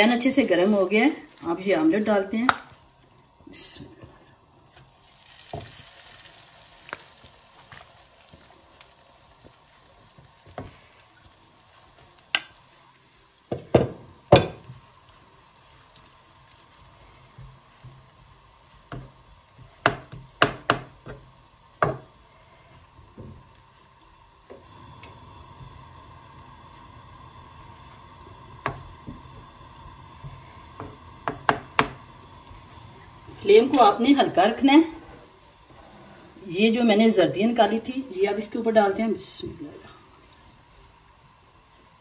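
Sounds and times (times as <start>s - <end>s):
mixture sizzling in hot oil: 0.0s - 42.0s.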